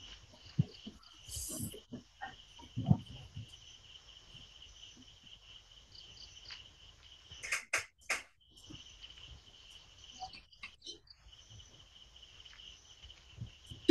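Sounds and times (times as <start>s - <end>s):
crickets chirping: 0.0s - 13.9s.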